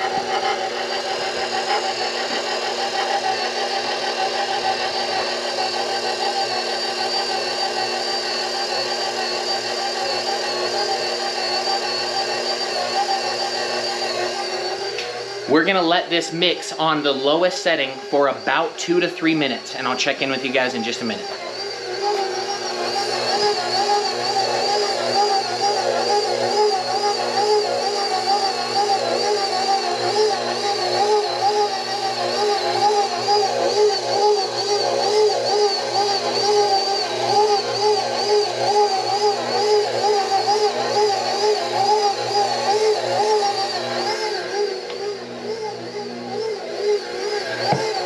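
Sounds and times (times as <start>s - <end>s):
stand mixer motor whine: 0.0s - 48.0s.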